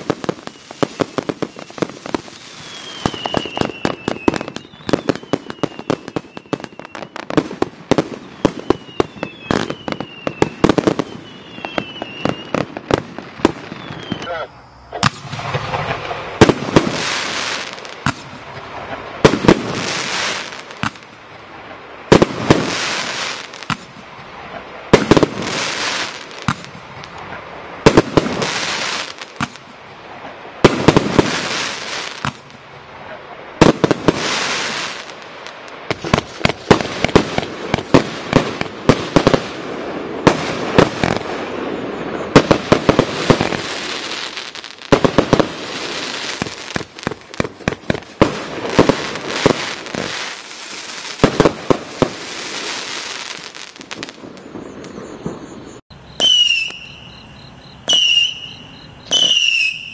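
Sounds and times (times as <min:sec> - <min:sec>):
firework hissing: 0:00.0 - 0:55.0
firework bangs: 0:00.0 - 0:59.9
firework crackles: 0:00.0 - 0:59.9.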